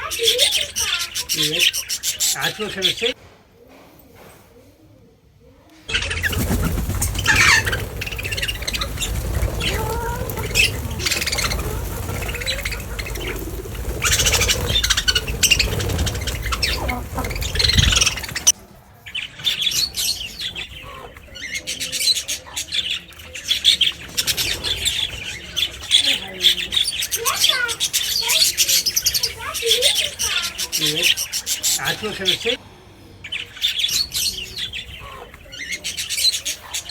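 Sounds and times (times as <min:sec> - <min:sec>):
birds squawking and chirping: 0:00.0 - 0:03.2, 0:05.8 - 0:36.9.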